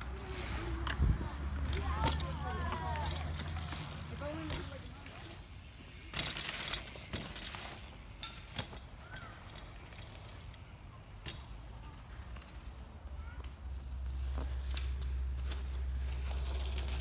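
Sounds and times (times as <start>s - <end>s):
bike knocking and rattling: 0.0s - 17.0s
bike tyres rushing on dirt: 0.0s - 17.0s.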